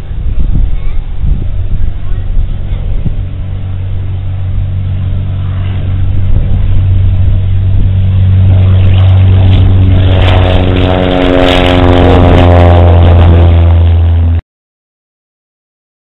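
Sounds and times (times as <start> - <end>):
propeller airplane engine running: 0.0 - 14.4.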